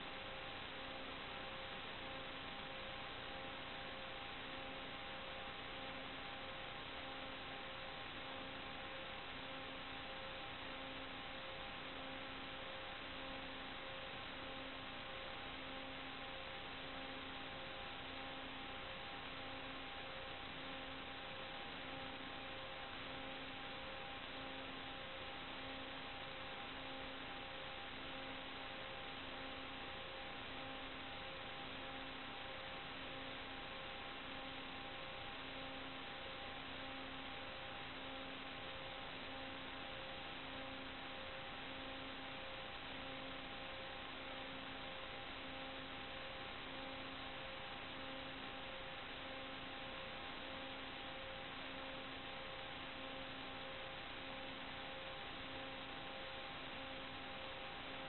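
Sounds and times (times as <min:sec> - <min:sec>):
faint hum tones: 0:00.0 - 0:58.0.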